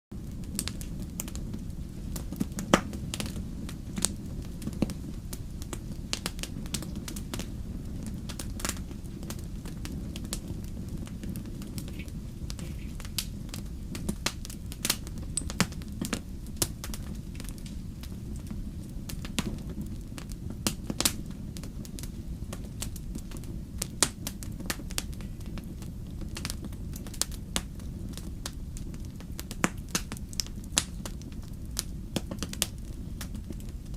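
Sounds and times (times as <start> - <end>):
low rumble of flames: 0.1 - 33.9
wood fire crackling and popping: 0.1 - 33.9.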